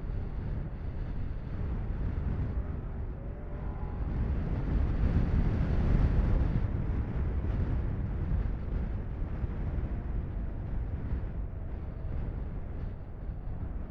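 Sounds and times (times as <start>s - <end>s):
race vehicle engines droning: 0.0s - 13.9s
wind buffeting microphone: 0.0s - 13.9s.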